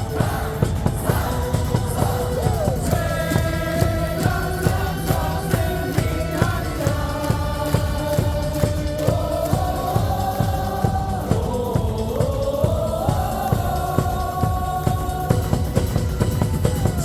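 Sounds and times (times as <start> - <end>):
crowd singing in unison: 0.0 - 17.0
loud amplified music: 0.0 - 17.0
steady drum beat: 0.0 - 17.0.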